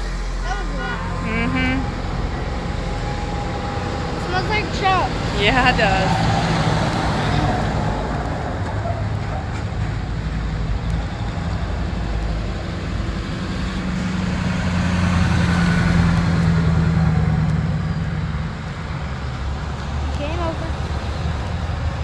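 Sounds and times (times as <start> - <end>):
tow truck engines rumbling: 0.0 - 22.0.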